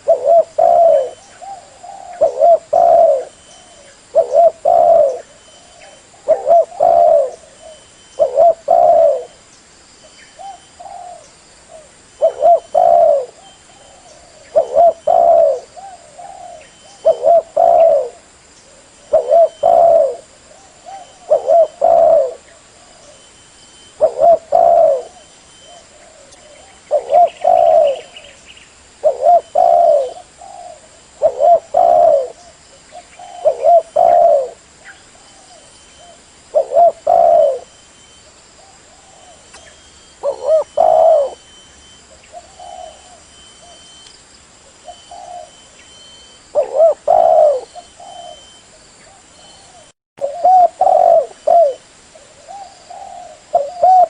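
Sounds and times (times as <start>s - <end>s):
dove cooing: 0.0s - 9.4s, 10.4s - 28.4s, 29.0s - 37.8s, 38.6s - 44.0s, 44.7s - 54.0s.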